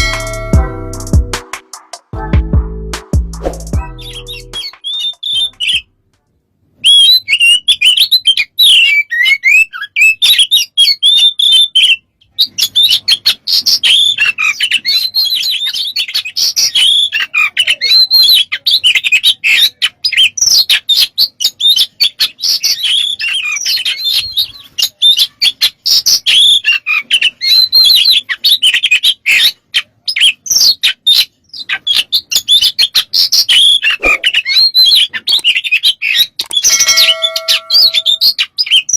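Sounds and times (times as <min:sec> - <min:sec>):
songbird chirps whistles and trills: 0:03.4 - 0:05.9, 0:06.8 - 0:38.9.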